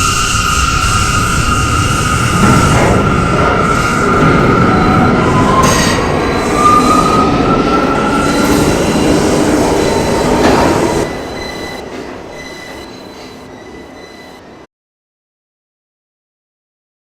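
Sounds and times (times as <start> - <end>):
subway train rumbling in tunnel: 0.0 - 14.7
train wheels squealing on rails: 0.0 - 14.7.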